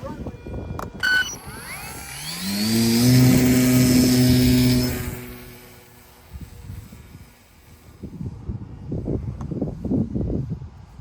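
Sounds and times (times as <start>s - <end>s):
model plane motor whine: 0.0s - 10.1s.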